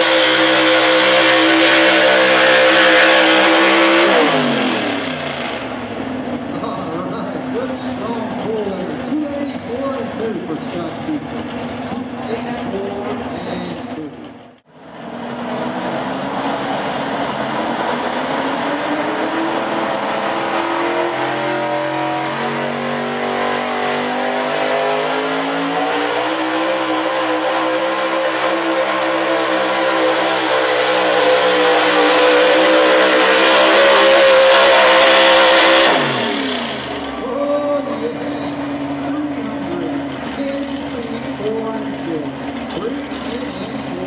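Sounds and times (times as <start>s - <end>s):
truck engine at full throttle: 0.0s - 44.0s.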